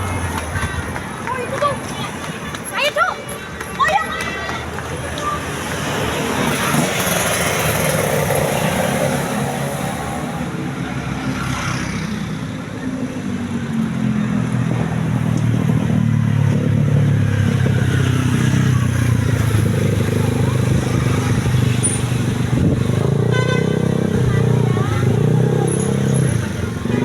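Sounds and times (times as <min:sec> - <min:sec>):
heavy bus engine humming: 0:00.0 - 0:01.4, 0:04.5 - 0:11.3, 0:12.0 - 0:27.0
vehicle engines passing: 0:00.0 - 0:27.0.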